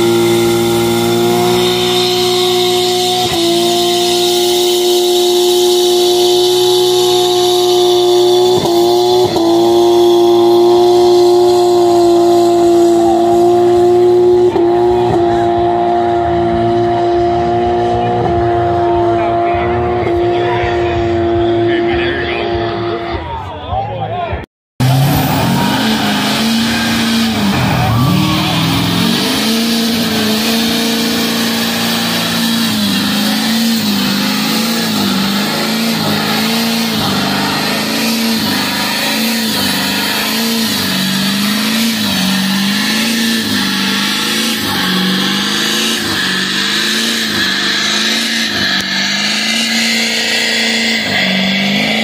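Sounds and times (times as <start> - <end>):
tires spinning: 0.0 - 52.0
truck engine revving high: 0.0 - 52.0.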